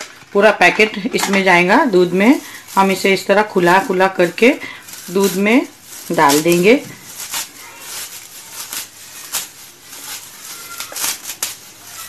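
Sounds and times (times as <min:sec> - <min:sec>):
dry strands crackling and snapping: 0:01.2 - 0:12.0.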